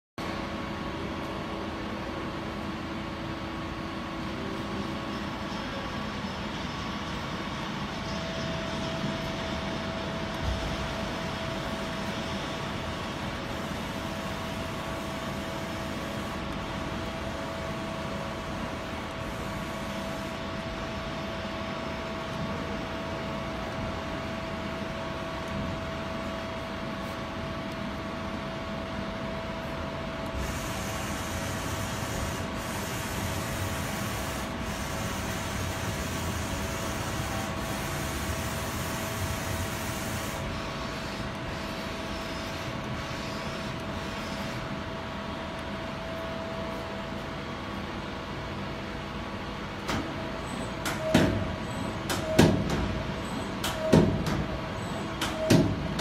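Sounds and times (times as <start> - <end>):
machine hum with whine: 0.2 - 56.0.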